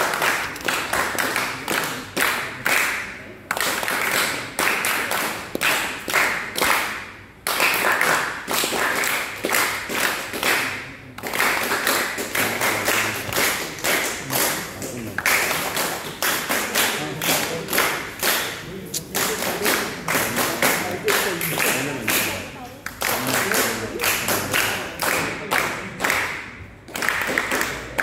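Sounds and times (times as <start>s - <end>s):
people clapping: 0.0s - 28.0s.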